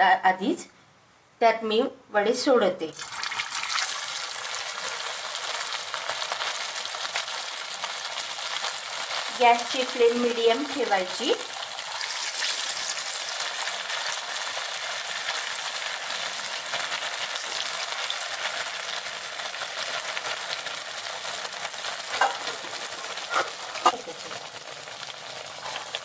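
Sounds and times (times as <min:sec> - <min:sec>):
food sizzling in hot oil: 0:02.9 - 0:26.0.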